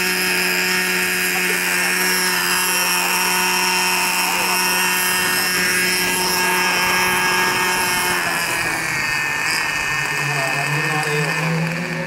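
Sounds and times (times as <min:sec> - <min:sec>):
model helicopter engine and rotors: 0:00.0 - 0:12.0.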